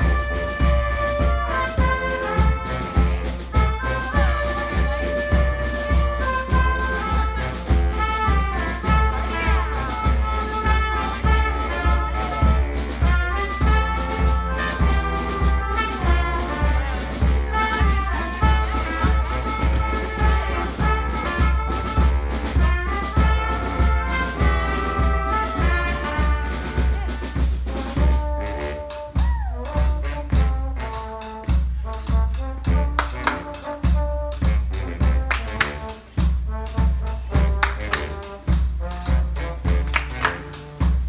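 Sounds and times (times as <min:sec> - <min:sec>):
bass drum beat: 0:00.0 - 0:41.0
brass band playing: 0:00.0 - 0:41.0.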